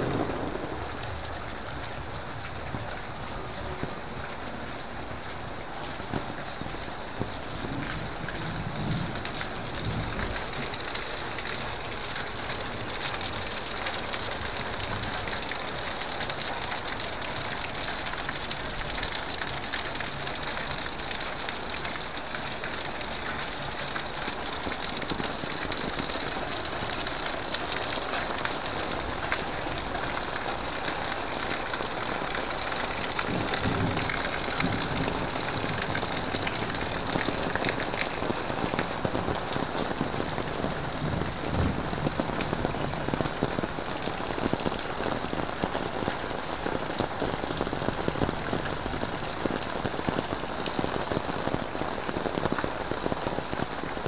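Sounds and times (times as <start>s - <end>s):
heavy rain on leaves and puddles: 0.0s - 54.0s.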